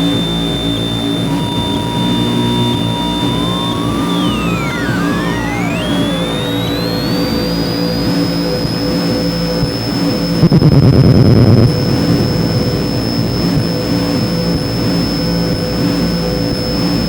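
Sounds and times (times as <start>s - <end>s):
high whistling synth tone: 0.0s - 16.8s
middle synth tone: 0.0s - 16.8s
pulsing low rumble: 0.0s - 17.0s
gritty noise burst: 1.0s - 15.5s.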